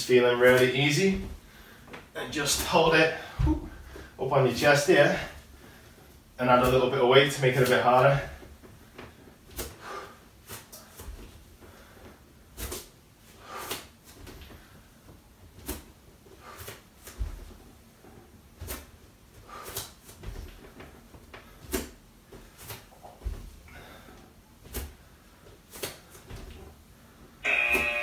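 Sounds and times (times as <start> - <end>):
bare feet thudding on a mat: 0.4 - 4.2, 5.1 - 26.9.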